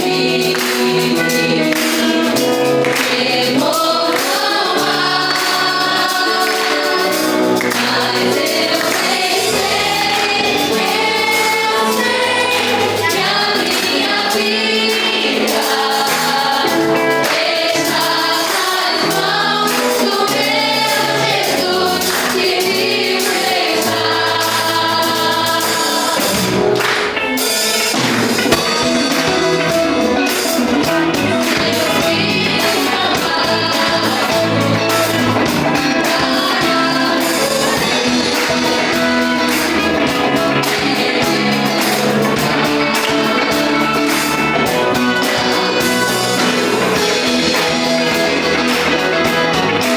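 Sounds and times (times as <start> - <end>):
gospel band playing live: 0.0 - 49.9
voices singing together: 0.0 - 49.9.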